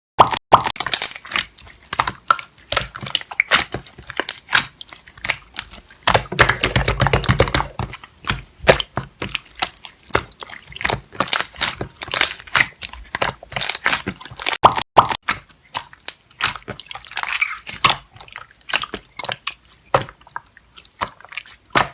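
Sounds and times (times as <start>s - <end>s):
slime squishing: 0.5s - 21.9s.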